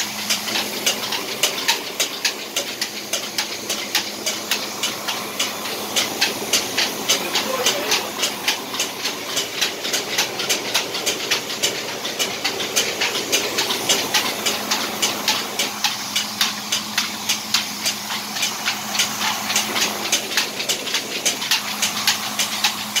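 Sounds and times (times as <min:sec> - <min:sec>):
grain mill humming and grinding: 0:00.0 - 0:23.0
rapid even clacking: 0:00.0 - 0:23.0.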